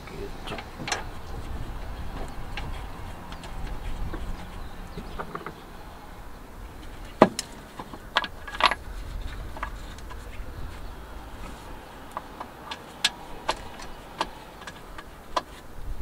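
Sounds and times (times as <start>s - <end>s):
short rattle: 0.1s - 16.0s.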